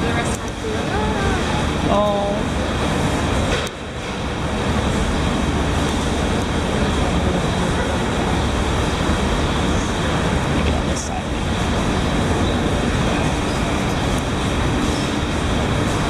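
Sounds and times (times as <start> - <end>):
machine rumble and hiss: 0.0 - 16.0.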